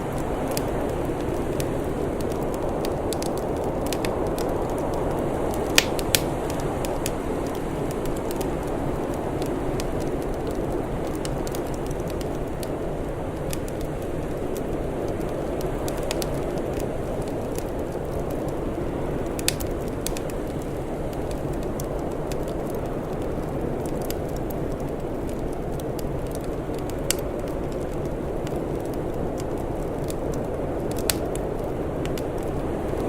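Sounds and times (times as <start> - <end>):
fire pops: 0.0 - 33.0
wood fire crackling: 0.0 - 33.0.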